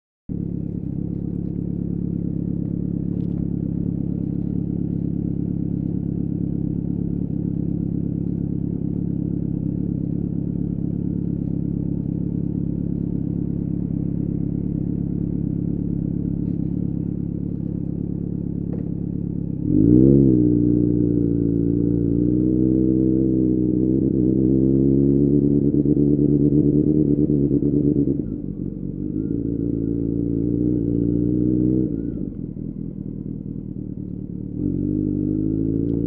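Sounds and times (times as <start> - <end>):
motorcycle engine idling: 0.3 - 36.0.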